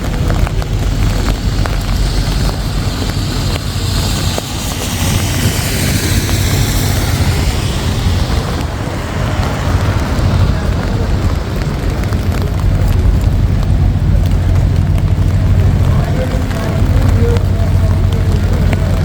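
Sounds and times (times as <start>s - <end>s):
low traffic rumble: 0.0s - 19.0s
vehicle tyre hiss on wet road: 0.0s - 19.0s.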